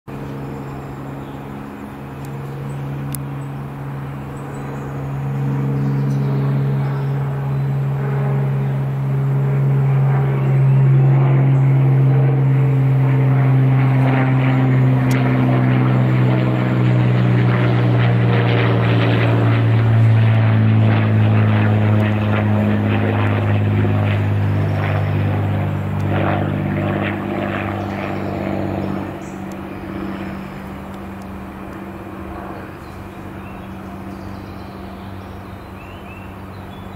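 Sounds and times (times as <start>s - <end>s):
propeller plane flying overhead: 0.1s - 36.9s.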